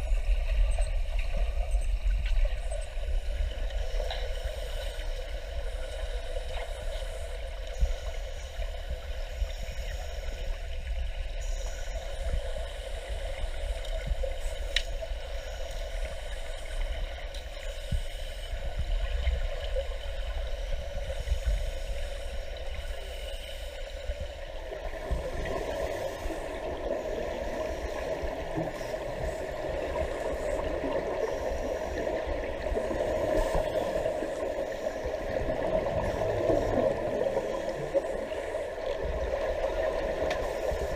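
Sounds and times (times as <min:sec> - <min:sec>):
steady underwater hum: 0:00.0 - 0:40.9.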